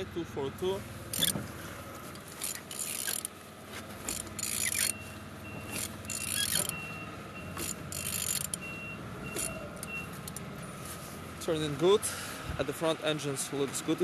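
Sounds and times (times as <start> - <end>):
engine turned by hand clicking: 0.0 - 14.0.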